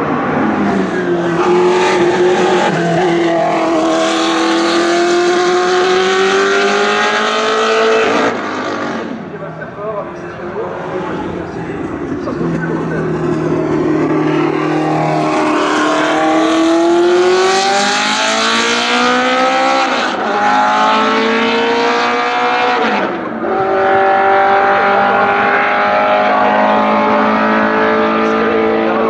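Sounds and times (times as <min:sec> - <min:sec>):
racing car engine accelerating: 0:00.0 - 0:09.3, 0:10.2 - 0:29.0.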